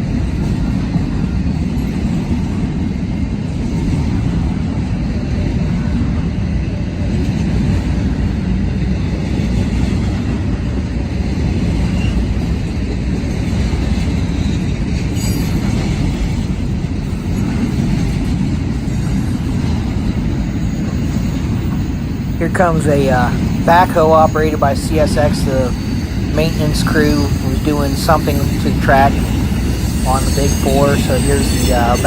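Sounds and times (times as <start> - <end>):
freight train wheels rumbling: 0.0 - 32.0.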